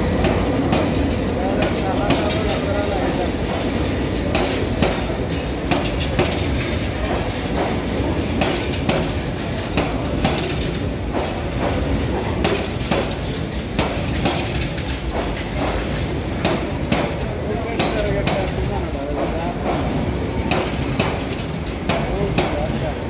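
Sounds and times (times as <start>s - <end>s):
train rumbling on rails: 0.0s - 23.0s
wheels clacking over rail joints: 0.2s - 23.0s.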